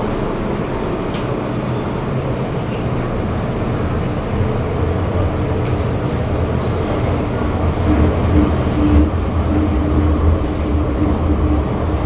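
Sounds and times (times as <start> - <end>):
metro train rumbling in tunnel: 0.0 - 12.0.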